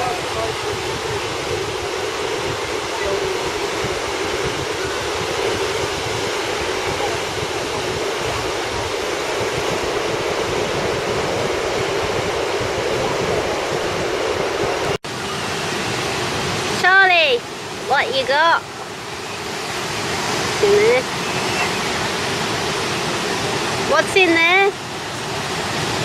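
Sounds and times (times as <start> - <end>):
sea rushing: 0.0 - 26.0.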